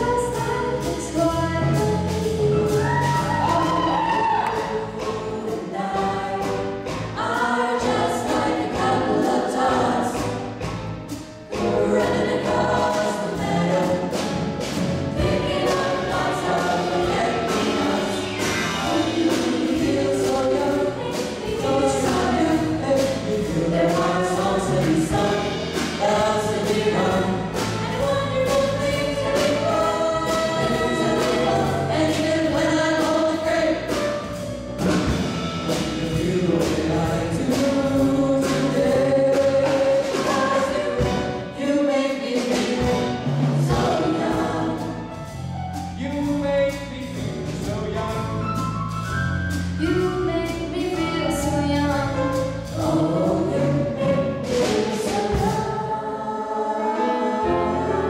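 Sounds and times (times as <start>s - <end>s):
bass guitar: 0.0s - 41.6s, 42.8s - 55.8s
drums in swing rhythm: 0.0s - 58.0s
choir singing in close harmony: 2.6s - 10.7s, 11.5s - 34.4s, 35.0s - 45.3s, 52.6s - 58.0s.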